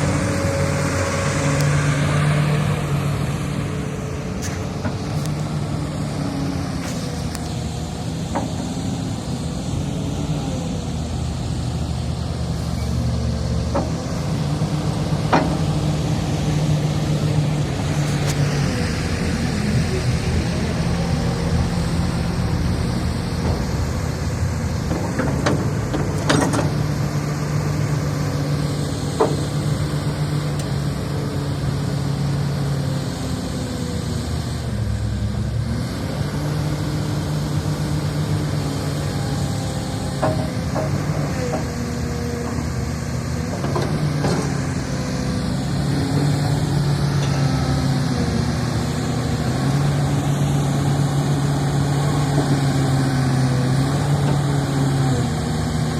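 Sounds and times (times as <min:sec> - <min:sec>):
excavator diesel engine: 0:00.0 - 0:55.9.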